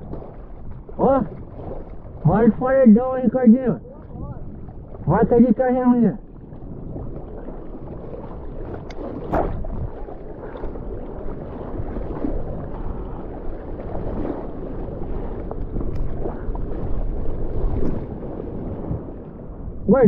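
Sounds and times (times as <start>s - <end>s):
water splashing from paddling: 0.0s - 5.4s, 6.2s - 19.1s.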